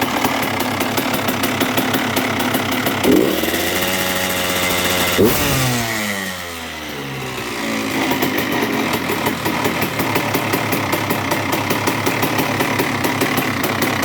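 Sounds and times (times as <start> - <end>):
two-stroke engine idling: 0.0 - 14.0.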